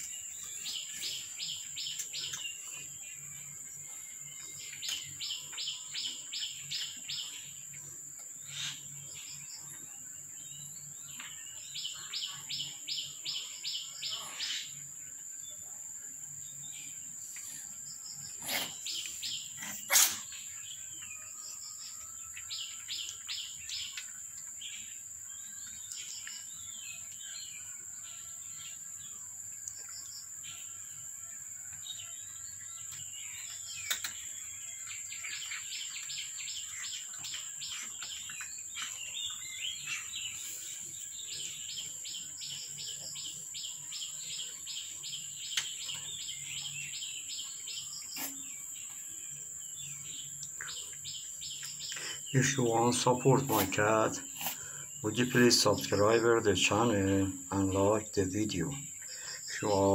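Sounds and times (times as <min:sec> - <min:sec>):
songbird chirping: 0:00.0 - 0:59.9.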